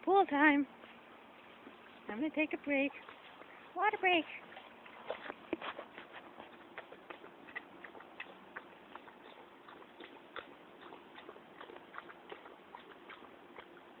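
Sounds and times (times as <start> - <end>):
light water noise: 0.0 - 14.0.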